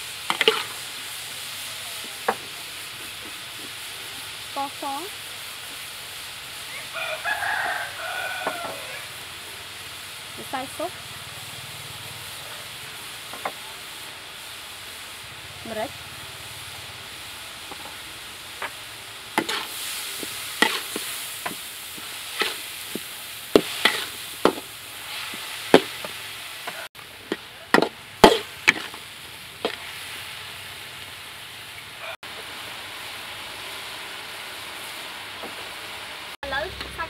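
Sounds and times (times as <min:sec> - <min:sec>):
food sizzling in wok: 0:00.0 - 0:37.0.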